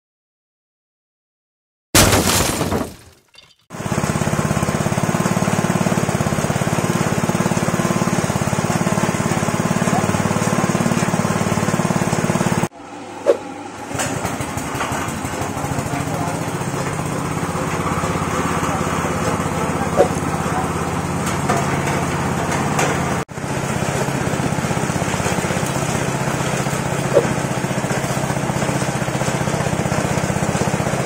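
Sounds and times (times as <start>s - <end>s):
small petrol engine running: 3.7s - 12.7s, 14.0s - 31.0s
low machine hum: 5.5s - 31.0s.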